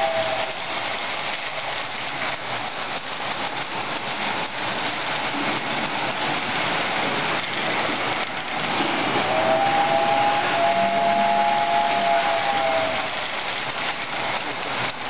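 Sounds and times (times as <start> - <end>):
model trains whirring and rattling: 0.0 - 15.0.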